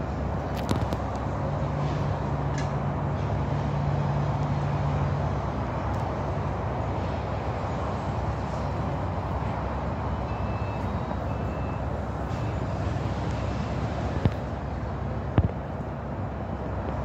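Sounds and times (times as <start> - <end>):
low engine hum: 0.0 - 17.0
traffic rumble: 0.0 - 17.0.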